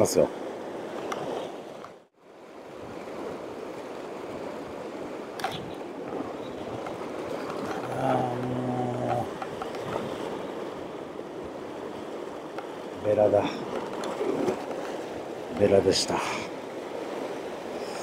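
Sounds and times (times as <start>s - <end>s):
surf breaking against rocks: 2.8s - 17.5s.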